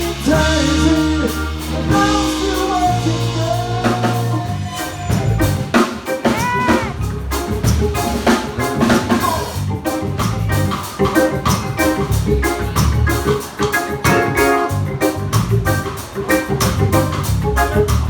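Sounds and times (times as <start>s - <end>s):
live reggae band playing: 0.0s - 18.0s.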